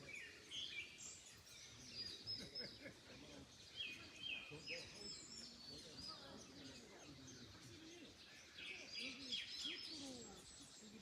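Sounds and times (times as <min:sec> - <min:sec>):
faint low murmuring tones: 0:00.0 - 0:11.0
small birds chirping: 0:00.0 - 0:11.0.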